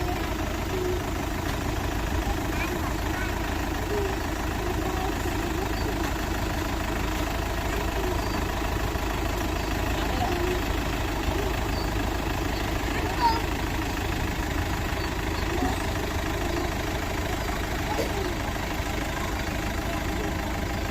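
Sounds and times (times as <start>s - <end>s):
diesel engine rumbling: 0.0s - 20.9s.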